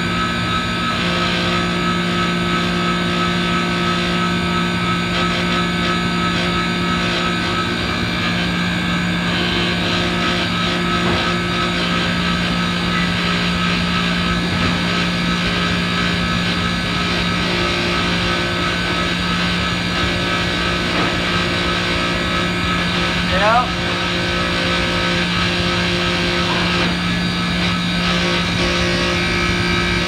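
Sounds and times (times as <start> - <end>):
compressor low hum: 0.0 - 30.0
fan rushing: 0.0 - 30.0.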